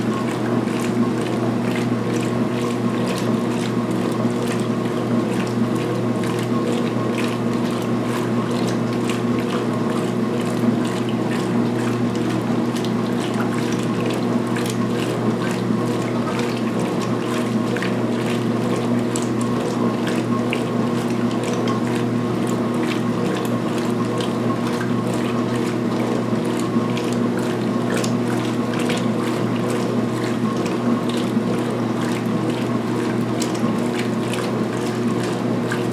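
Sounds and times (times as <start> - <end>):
washing machine motor hum: 0.0 - 35.9
water sloshing: 0.0 - 35.9.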